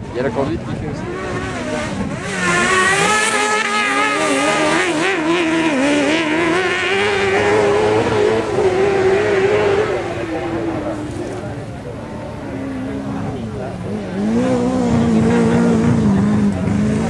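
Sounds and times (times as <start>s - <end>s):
off-road vehicle engine revving: 0.1s - 17.0s.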